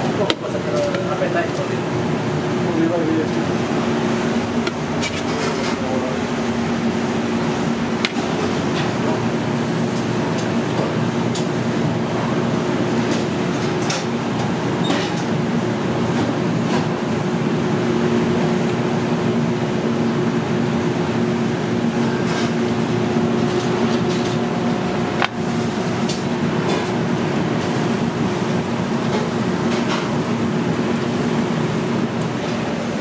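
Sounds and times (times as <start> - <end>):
kitchen ventilation drone: 0.0 - 33.0.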